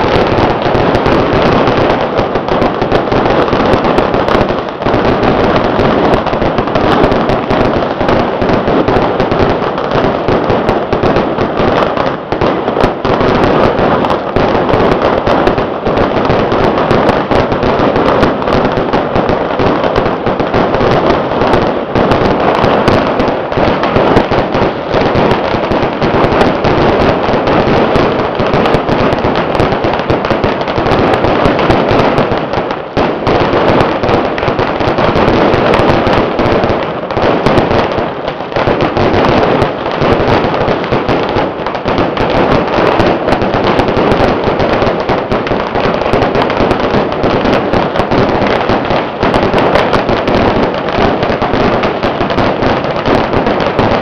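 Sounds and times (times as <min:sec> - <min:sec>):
firecrackers popping: 0:00.0 - 0:54.0.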